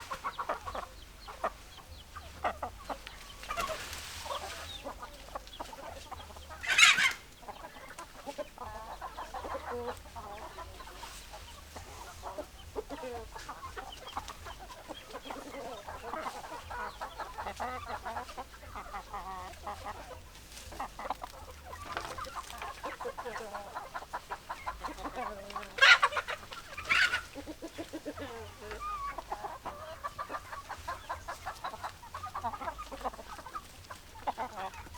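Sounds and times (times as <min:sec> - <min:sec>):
chickens clucking: 0:00.0 - 0:34.9
sharp chicken calls: 0:00.0 - 0:34.9.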